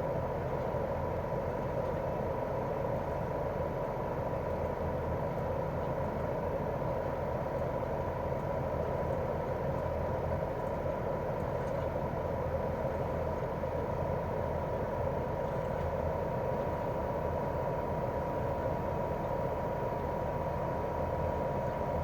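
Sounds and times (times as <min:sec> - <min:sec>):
air conditioner unit humming: 0:00.0 - 0:22.0
thin steady whine: 0:00.0 - 0:22.0.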